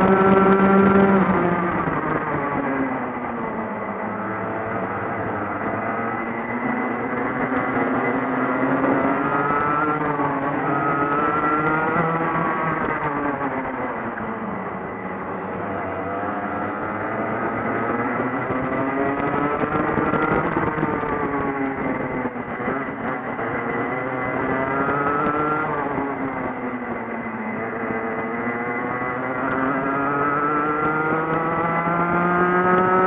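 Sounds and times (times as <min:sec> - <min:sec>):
kart engine revving: 0:00.0 - 0:33.0
surrounding kart engines: 0:00.0 - 0:33.0.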